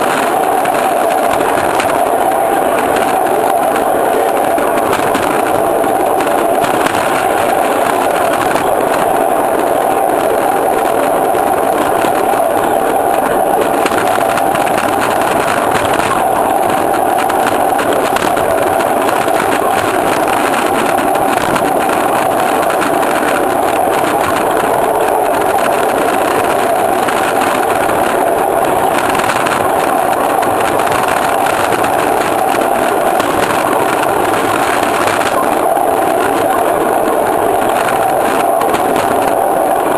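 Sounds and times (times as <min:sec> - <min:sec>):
miniature train running on track: 0:00.0 - 0:39.9.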